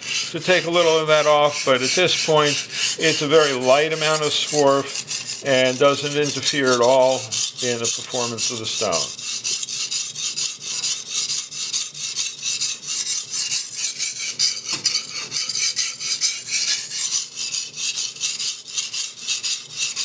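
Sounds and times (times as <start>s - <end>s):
blade scraping on whetstone: 0.0s - 20.0s.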